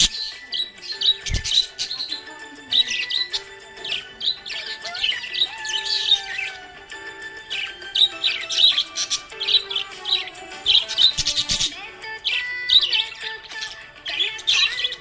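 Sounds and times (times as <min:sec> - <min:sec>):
budgie chirping and twittering: 0:00.0 - 0:15.0
soft background music: 0:00.0 - 0:15.0.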